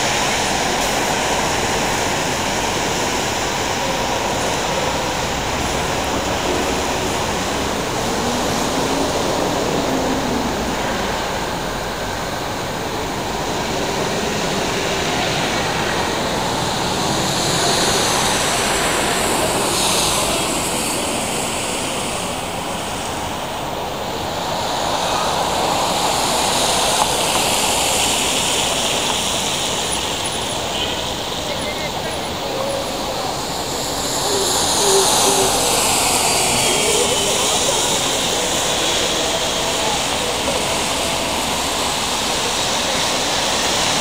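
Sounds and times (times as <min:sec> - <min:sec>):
traffic on wet roads: 0:00.0 - 0:44.0.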